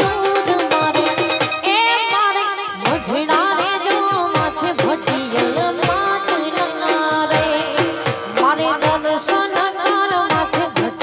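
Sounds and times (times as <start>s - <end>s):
fast drum beats: 0.0s - 11.0s.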